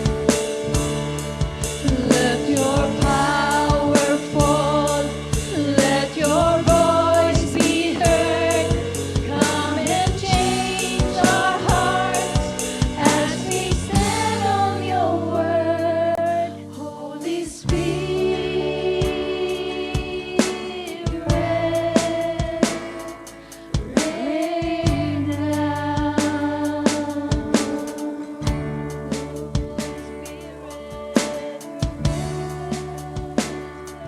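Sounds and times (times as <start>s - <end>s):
live band playing: 0.0s - 34.0s
steady drum beat: 0.0s - 34.0s
person singing: 1.7s - 34.0s.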